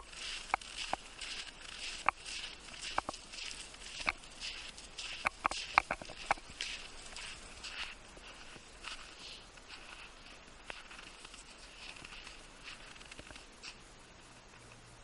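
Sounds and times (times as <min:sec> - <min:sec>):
footsteps crunching snow: 0:00.0 - 0:13.9.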